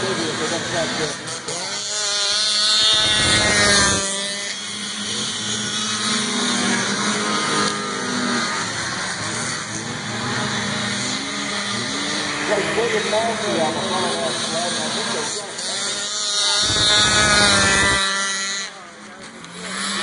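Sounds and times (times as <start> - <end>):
snowmobiles racing past: 0.0 - 20.0.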